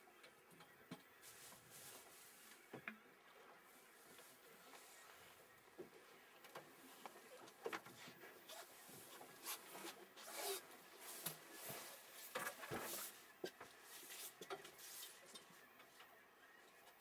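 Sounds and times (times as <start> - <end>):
faint rustling and rubbing: 1.0 - 16.2.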